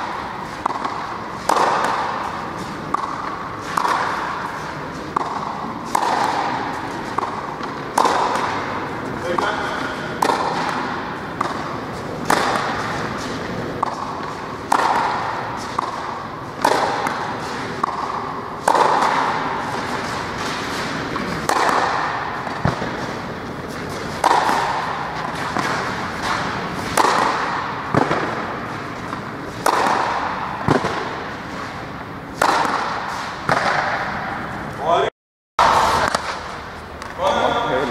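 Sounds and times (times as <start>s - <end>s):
tennis rackets hitting ball: 0.0s - 34.7s, 35.6s - 37.5s.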